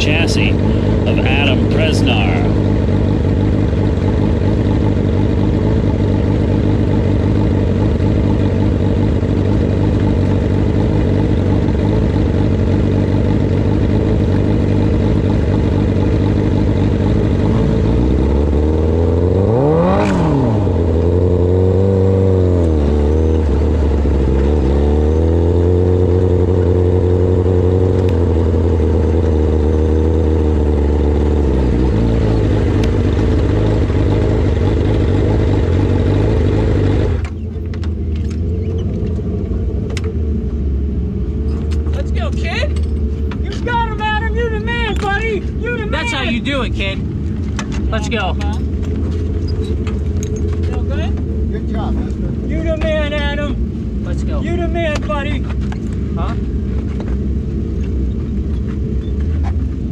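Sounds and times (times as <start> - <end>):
motorcycle engine running and revving: 0.0 - 43.6, 44.5 - 59.9.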